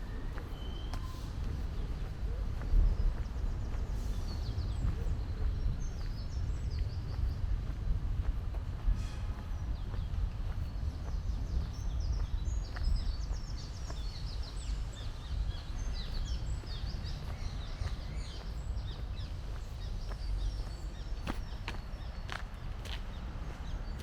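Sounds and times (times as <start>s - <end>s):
songbirds chirping and trilling: 0.0s - 24.0s.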